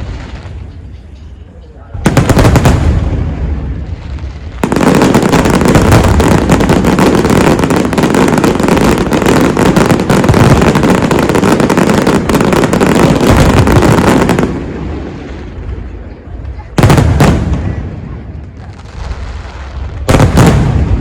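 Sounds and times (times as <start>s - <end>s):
fireworks crackling: 0.0s - 1.3s, 2.0s - 21.0s.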